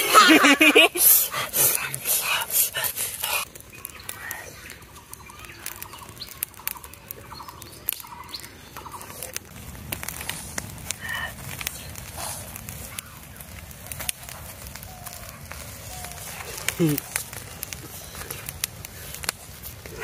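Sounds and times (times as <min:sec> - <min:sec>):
straw and twigs crackling in fire: 0:00.0 - 0:20.0.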